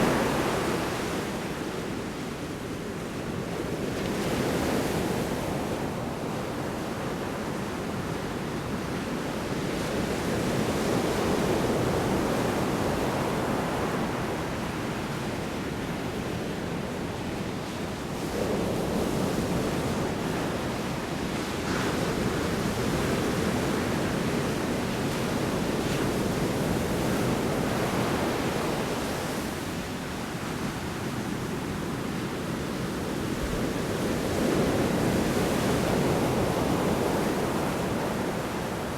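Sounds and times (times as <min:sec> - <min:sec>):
wind: 0:00.0 - 0:38.9.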